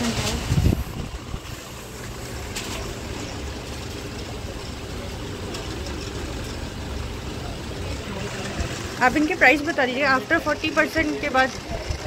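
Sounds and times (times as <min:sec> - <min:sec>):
low shop hum: 0:00.0 - 0:12.0.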